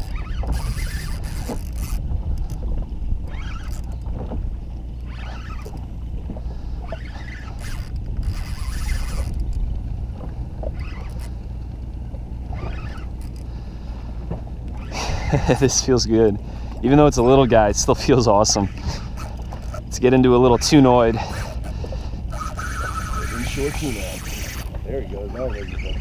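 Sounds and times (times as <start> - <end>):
outboard motor idling: 0.0 - 26.0.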